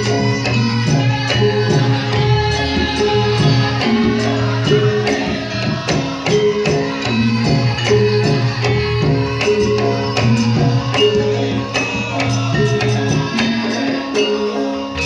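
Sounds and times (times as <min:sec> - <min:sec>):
jingling tambourine-like percussion: 0:00.0 - 0:15.0
live band music: 0:00.0 - 0:15.0.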